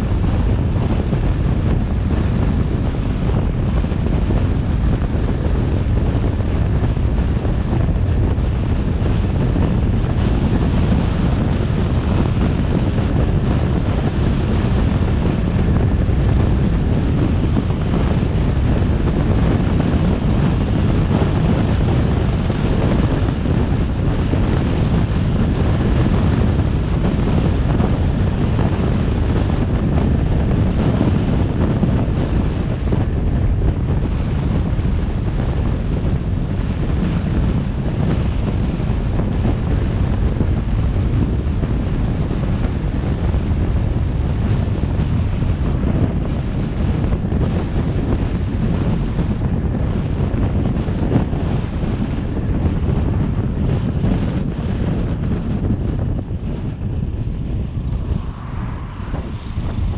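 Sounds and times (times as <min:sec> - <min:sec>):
low road rumble: 0:00.0 - 0:59.9
wind rushing over microphone: 0:00.0 - 0:59.9.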